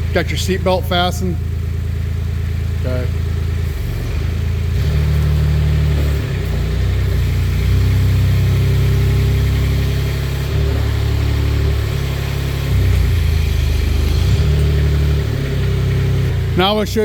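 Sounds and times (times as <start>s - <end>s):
forklift engine revving: 0.0s - 17.0s.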